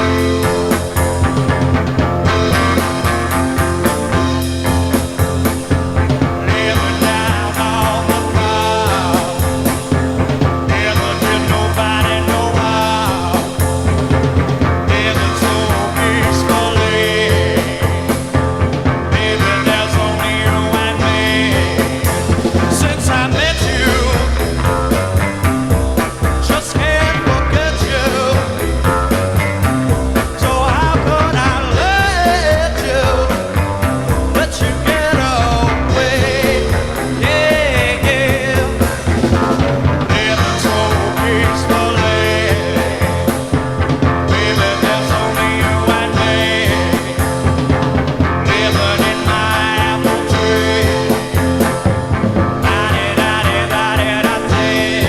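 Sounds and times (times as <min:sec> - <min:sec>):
heavy rock music: 0:00.0 - 0:55.0.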